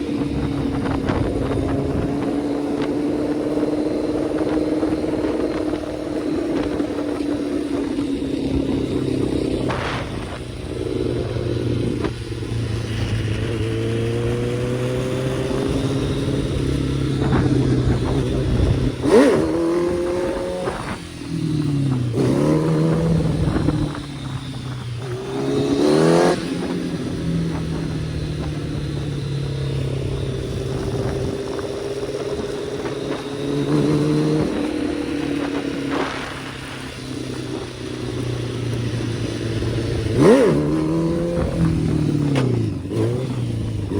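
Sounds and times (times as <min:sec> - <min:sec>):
sport bike engine revving: 0:00.0 - 0:43.9
wind noise: 0:00.0 - 0:43.9.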